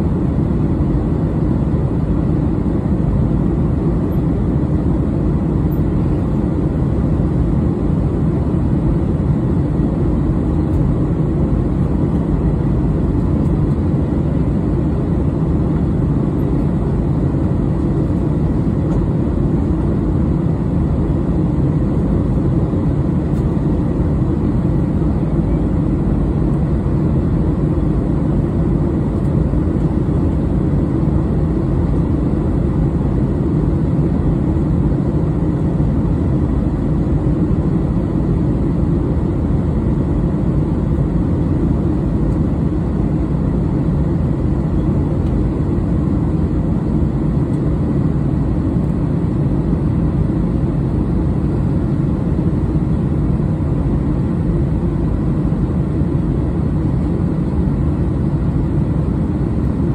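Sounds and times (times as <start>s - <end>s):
jet cabin engine roar: 0.0s - 59.9s.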